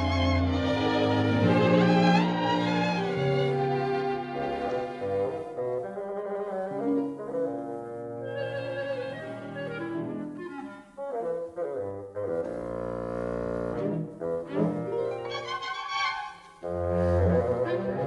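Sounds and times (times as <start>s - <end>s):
slow instrumental music: 0.0s - 15.7s.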